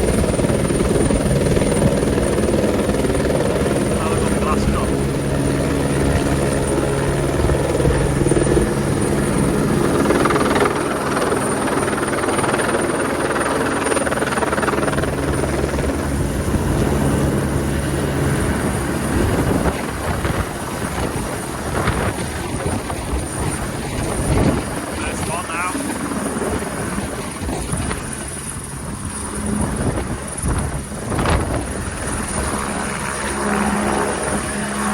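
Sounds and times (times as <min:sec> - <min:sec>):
helicopter running: 0:00.0 - 0:34.9.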